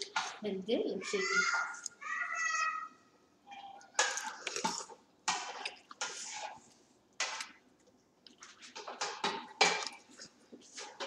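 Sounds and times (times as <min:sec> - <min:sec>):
people eating at a table: 0:00.0 - 0:11.0.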